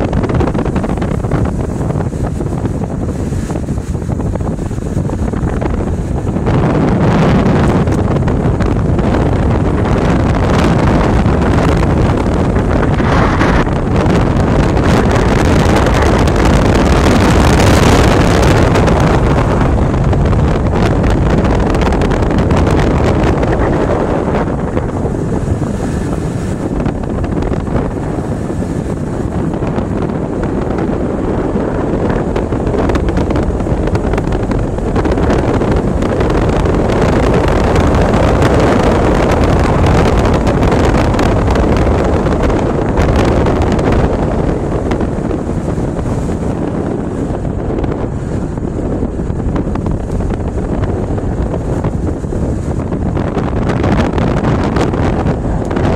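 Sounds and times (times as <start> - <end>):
vehicle driving on sand: 0.0 - 55.9
wind buffeting microphone: 0.0 - 55.9.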